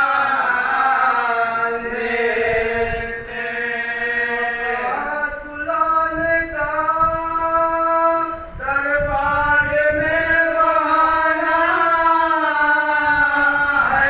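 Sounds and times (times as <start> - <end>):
men chanting into a microphone: 0.0 - 14.0.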